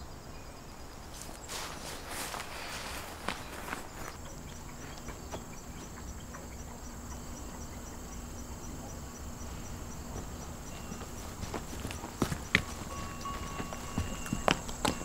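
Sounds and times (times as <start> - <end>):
faint outdoor hush: 0.0 - 15.0
insects chirping: 0.0 - 15.0.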